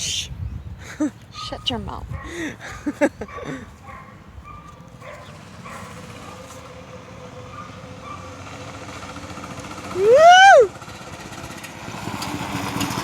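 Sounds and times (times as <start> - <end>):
motor scooter engine running: 2.2 - 13.0.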